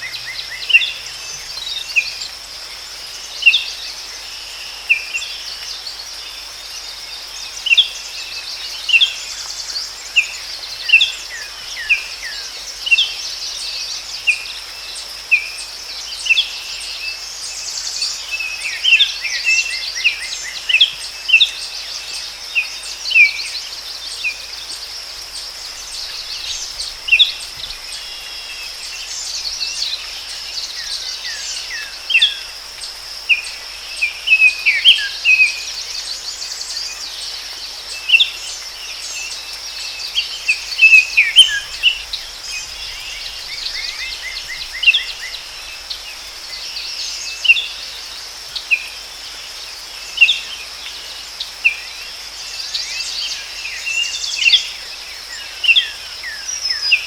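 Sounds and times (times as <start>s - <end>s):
small birds chirping: 4.9s - 57.0s.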